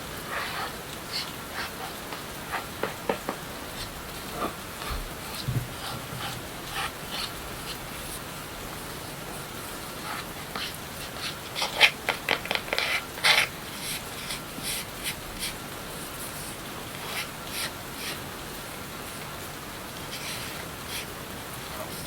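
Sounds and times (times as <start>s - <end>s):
steady rain: 0.0s - 22.0s
close-up rubbing and scratching: 0.2s - 8.2s, 9.0s - 18.2s, 20.0s - 22.0s.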